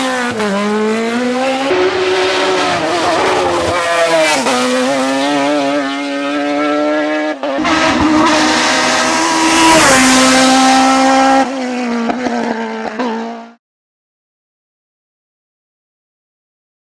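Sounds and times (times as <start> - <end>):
race car engine at high revs: 0.0 - 13.6.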